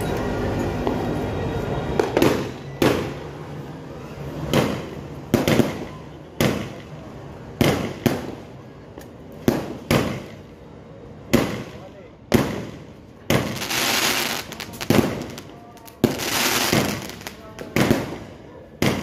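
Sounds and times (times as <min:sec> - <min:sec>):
fireworks reports with echo: 0:00.1 - 0:19.0.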